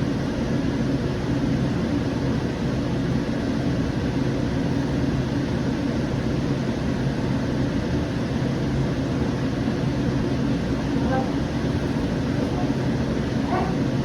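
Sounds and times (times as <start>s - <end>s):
light rail car rumbling: 0.0s - 14.0s.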